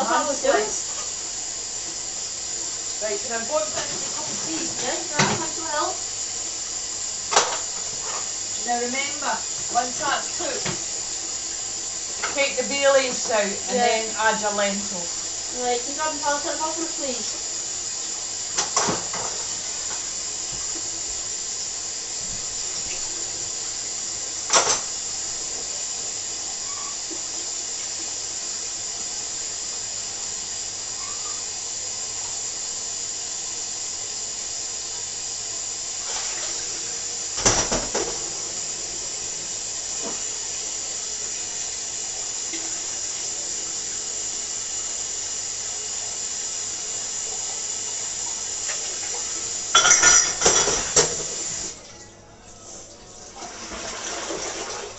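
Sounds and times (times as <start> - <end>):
watery hiss: 0.0 - 51.8.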